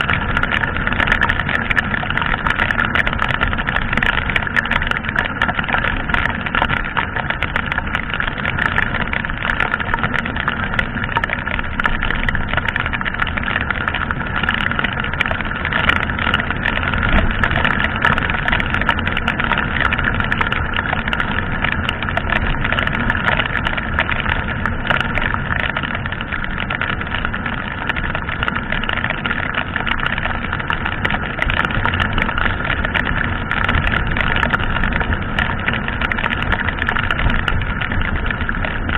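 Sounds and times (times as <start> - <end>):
wind and rain on microphone: 0.0 - 38.9.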